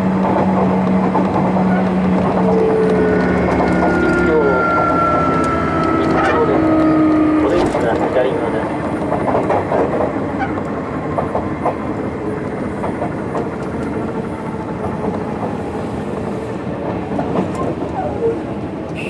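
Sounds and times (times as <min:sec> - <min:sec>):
train running noise inside car: 0:00.0 - 0:19.0
wheels clicking over rail joints: 0:00.0 - 0:19.0.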